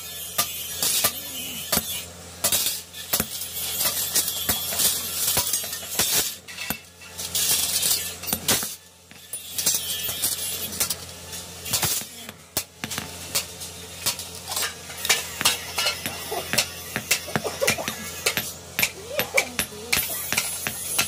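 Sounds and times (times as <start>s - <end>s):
hand tool scraping steel: 0.0s - 12.2s, 12.9s - 21.0s.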